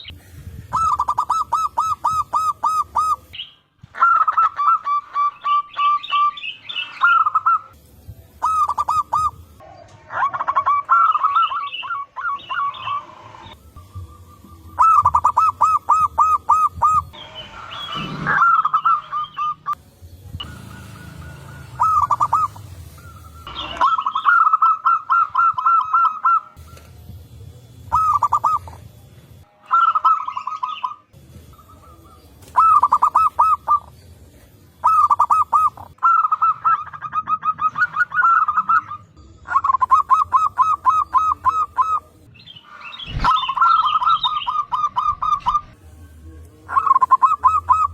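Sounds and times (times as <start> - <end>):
doves cooing: 0.0 - 7.8, 8.4 - 19.8, 20.4 - 27.1, 27.7 - 29.0, 29.7 - 42.2, 46.6 - 47.9.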